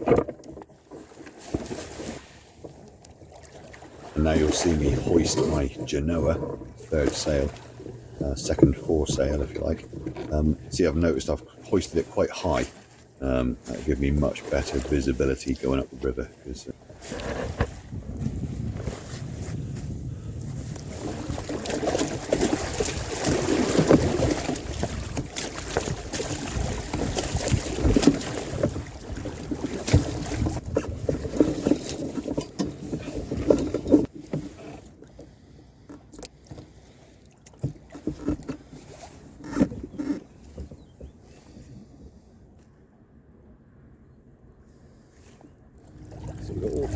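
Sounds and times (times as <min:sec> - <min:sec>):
hull and rigging knocking: 0:00.0 - 0:41.3
water rustling and splashing: 0:00.0 - 0:42.9, 0:44.9 - 0:46.9.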